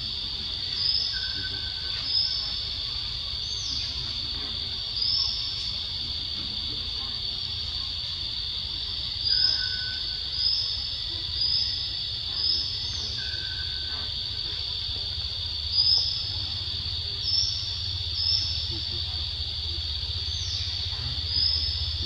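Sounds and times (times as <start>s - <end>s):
forest insects droning: 0.0s - 22.0s.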